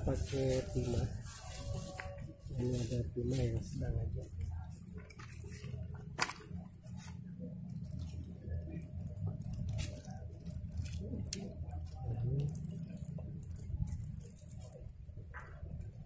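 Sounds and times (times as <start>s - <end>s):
constant low rumble: 0.0s - 16.0s.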